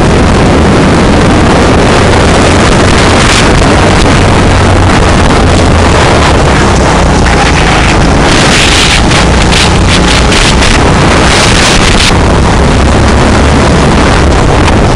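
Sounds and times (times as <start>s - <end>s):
go-kart engine running: 0.0s - 14.9s
wind buffeting microphone: 0.0s - 14.9s.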